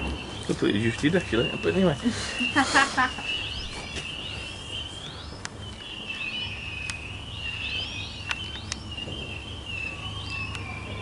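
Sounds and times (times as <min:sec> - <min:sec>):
distant fireworks whistling: 0:00.0 - 0:11.0.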